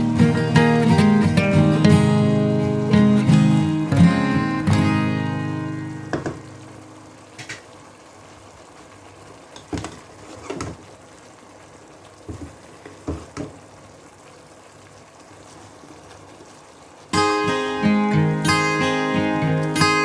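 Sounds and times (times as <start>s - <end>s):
liquid boiling: 0.0s - 20.0s.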